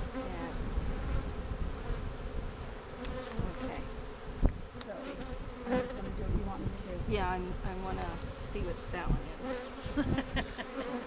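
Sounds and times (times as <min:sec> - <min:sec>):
bees humming: 0:00.0 - 0:11.0.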